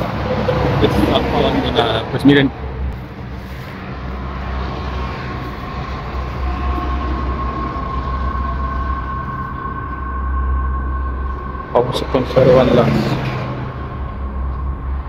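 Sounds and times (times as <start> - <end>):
highway traffic rumble: 0.0 - 15.0
tyre whine: 0.0 - 15.0.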